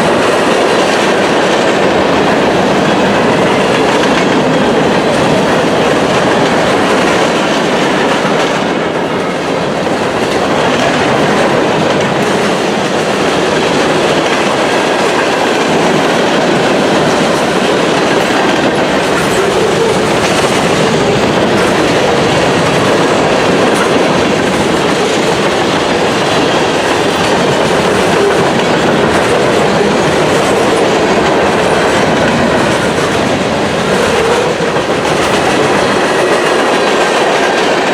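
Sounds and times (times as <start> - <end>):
train wheels clacking over rails: 0.0 - 37.9.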